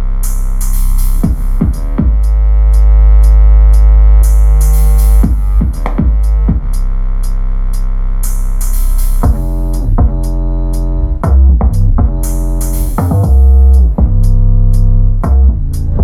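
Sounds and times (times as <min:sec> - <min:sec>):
electronic music: 0:00.0 - 0:16.0
heavy deep bass: 0:00.0 - 0:16.0.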